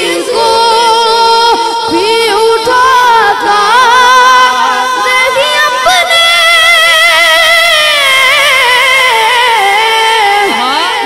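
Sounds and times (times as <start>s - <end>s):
boy singing into a microphone: 0.0s - 11.0s.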